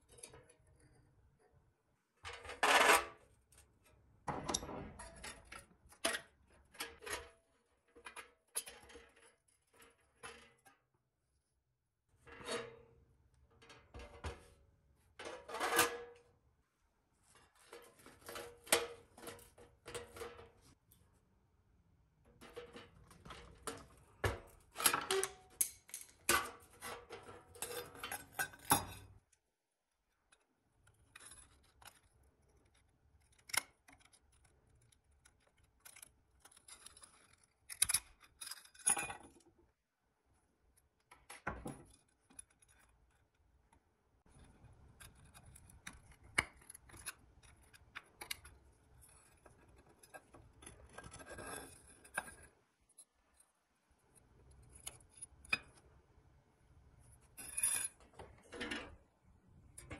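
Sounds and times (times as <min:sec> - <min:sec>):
tools tapping and scraping metal: 0:00.0 - 0:01.6, 0:02.2 - 0:10.9, 0:12.3 - 0:16.3, 0:17.2 - 0:21.0, 0:22.3 - 0:29.3, 0:30.3 - 0:39.6, 0:40.8 - 0:53.5, 0:54.2 - 0:55.9, 0:57.2 - 0:59.0, 0:59.6 - 0:59.9.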